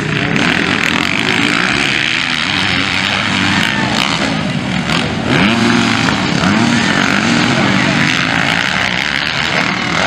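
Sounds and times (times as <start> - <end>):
motocross bikes revving: 0.0 - 10.0.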